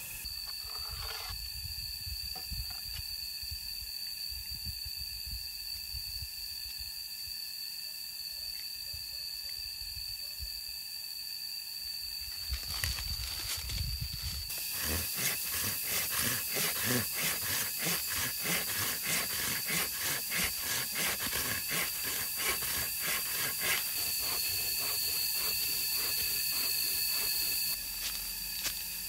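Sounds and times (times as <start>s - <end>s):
high-pitched hiss and drone: 0.0s - 29.0s.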